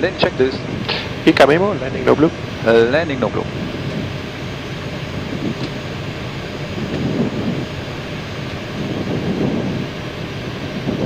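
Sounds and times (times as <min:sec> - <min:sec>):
aircraft flight deck noise: 0:00.0 - 0:11.0.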